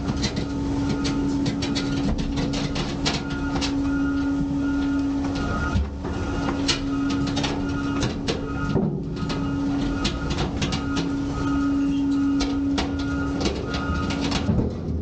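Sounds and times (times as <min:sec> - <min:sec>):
hydraulic machinery hum: 0:00.0 - 0:15.0
knocks clicks and creaks of load: 0:00.0 - 0:15.0.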